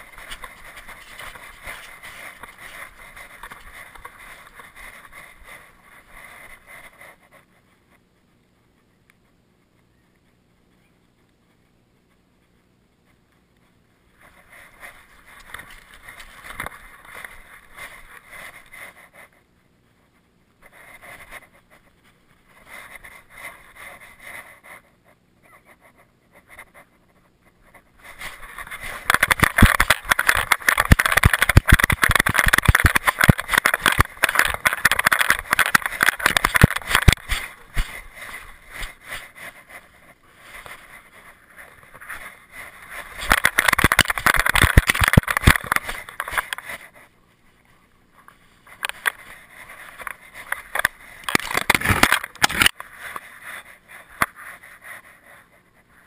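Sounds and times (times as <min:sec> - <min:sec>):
camera rubbing against fur: 0:00.0 - 0:56.0.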